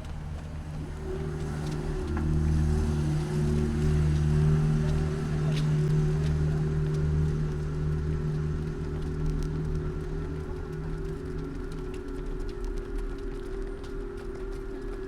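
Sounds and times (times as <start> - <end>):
vehicle engine running: 0.0 - 13.6.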